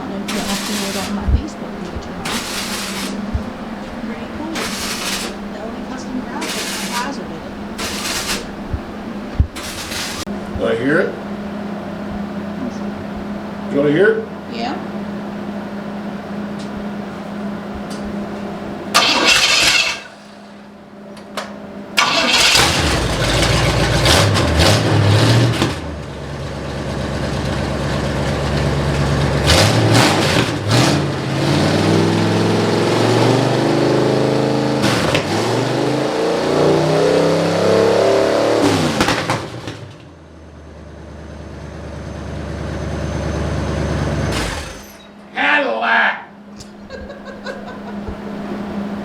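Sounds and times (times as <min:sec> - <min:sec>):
car engine starting and revving: 0:00.0 - 0:17.6, 0:18.2 - 0:20.9, 0:21.9 - 0:45.1, 0:47.4 - 0:49.0.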